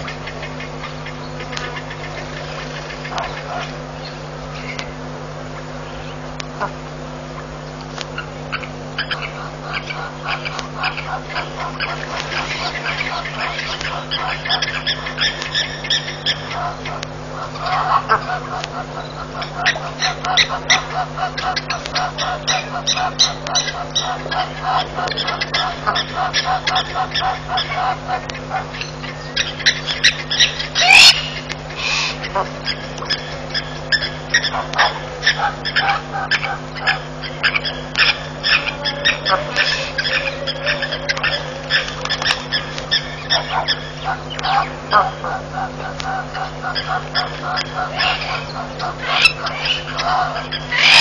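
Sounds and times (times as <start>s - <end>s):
low hum: 0.0s - 51.0s
short bird calls: 5.6s - 51.0s.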